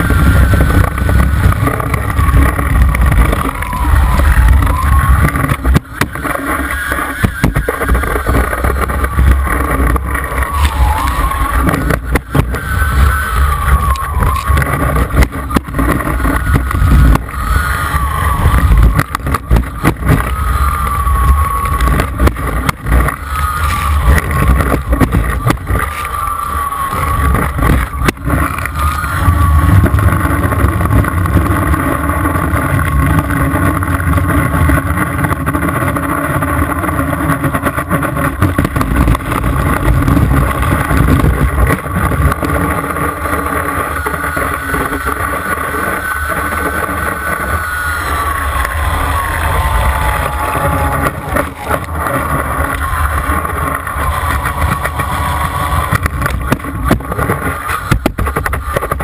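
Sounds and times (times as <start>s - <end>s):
boat engine whining: 0.0s - 59.0s
wind rumble on microphone: 0.0s - 59.0s.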